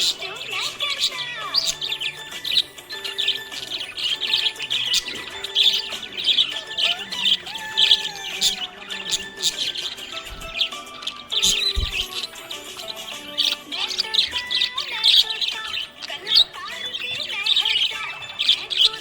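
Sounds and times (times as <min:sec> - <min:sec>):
budgerigars chirping and warbling: 0:00.0 - 0:19.0.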